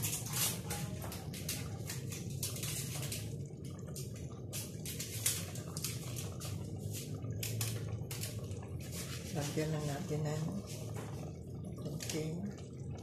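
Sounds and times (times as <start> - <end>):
sauce bubbling in pot: 0.0 - 13.0
steady low hum: 0.0 - 13.0.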